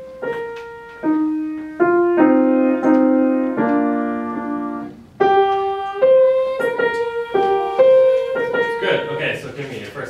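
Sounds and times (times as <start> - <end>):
piano playing slow chords: 0.0 - 9.6.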